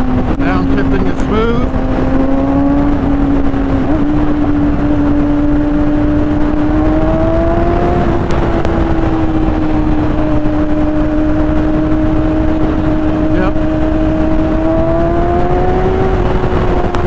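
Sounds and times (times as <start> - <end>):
motorcycle engine at high revs: 0.0 - 17.0
wind rush: 0.0 - 17.0.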